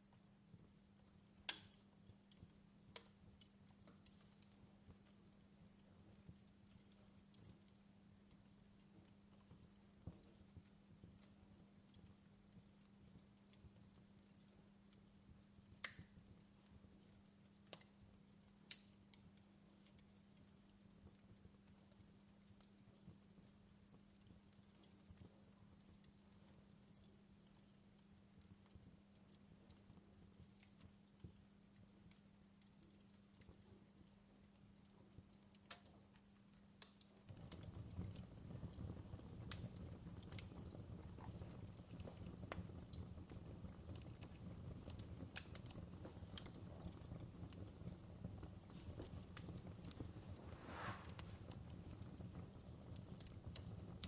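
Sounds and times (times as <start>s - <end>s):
low steady hum: 0.0s - 54.0s
wood fire crackling and popping: 0.0s - 54.0s.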